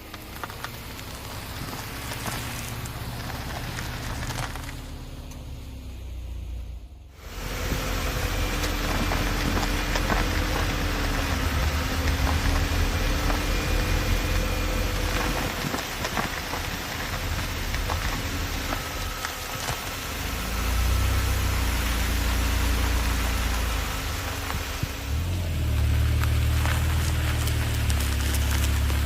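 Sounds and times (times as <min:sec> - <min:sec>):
car engine: 0:00.0 - 0:29.0
tyres on dirt road: 0:00.0 - 0:29.0.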